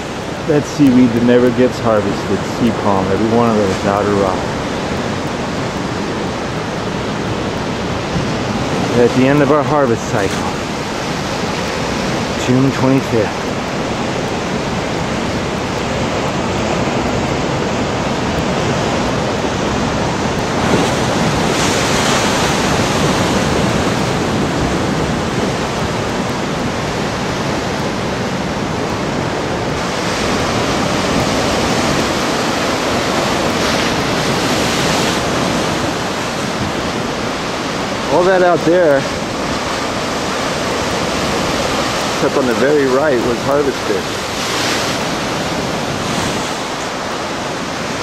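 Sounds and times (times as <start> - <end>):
surf breaking over rocks: 0.0 - 48.0.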